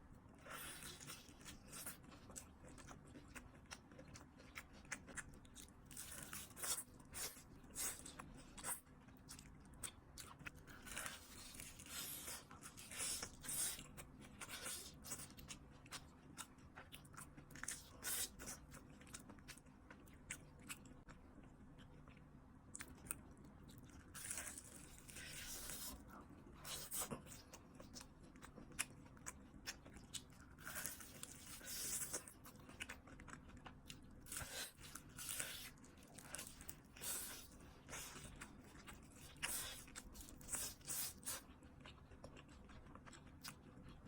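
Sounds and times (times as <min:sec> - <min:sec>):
crunchy fried potato being chewed: 0:00.3 - 0:44.0.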